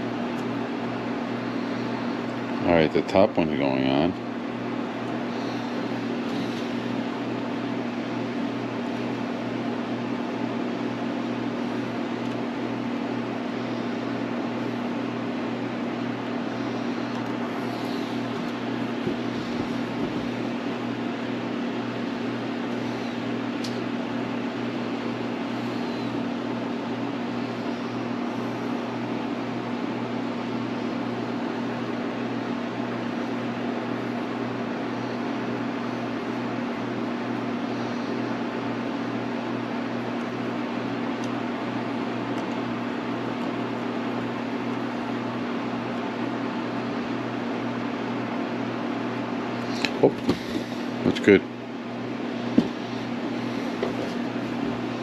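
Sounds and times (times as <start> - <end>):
machine hum and whir: 0.0 - 55.0.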